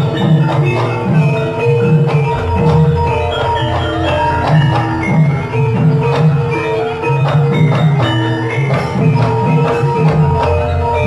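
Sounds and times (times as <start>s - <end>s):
drum and percussion strokes: 0.0s - 11.0s
gamelan ensemble playing: 0.0s - 11.0s.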